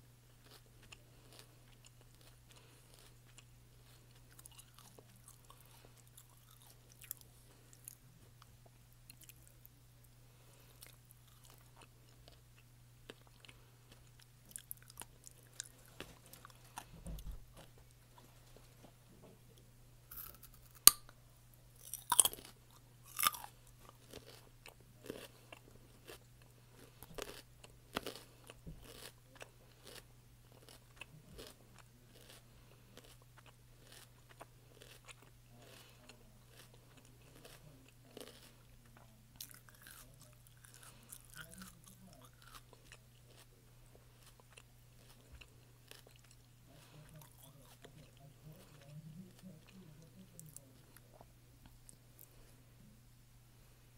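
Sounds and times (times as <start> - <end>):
steady low hum: 0.0 - 53.9
person chewing crunchy food: 0.3 - 18.2, 20.1 - 21.2, 21.8 - 52.5.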